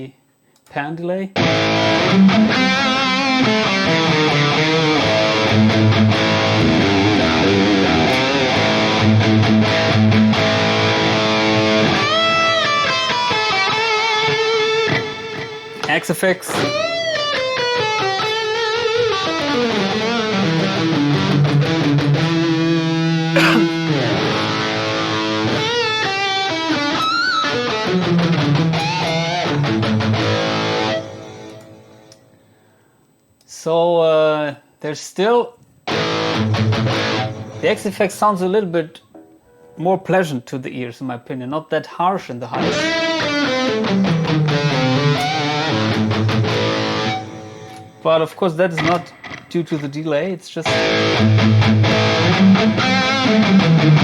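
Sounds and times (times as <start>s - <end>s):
distorted electric guitar with delay: 1.4s - 32.2s, 35.9s - 38.4s, 42.6s - 48.0s, 48.6s - 50.0s, 50.6s - 54.0s.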